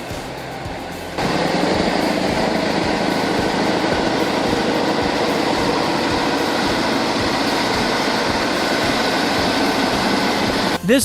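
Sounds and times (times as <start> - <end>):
truck engine droning: 0.0 - 10.8.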